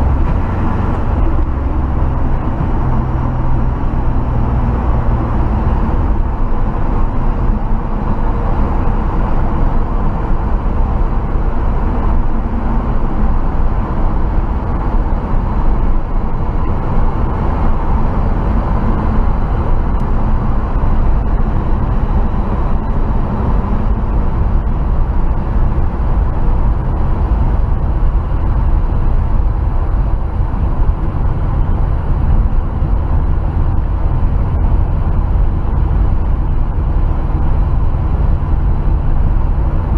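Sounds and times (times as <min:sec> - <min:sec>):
pickup truck engine rumble: 0:00.0 - 0:39.9
road or wind noise: 0:00.0 - 0:39.9.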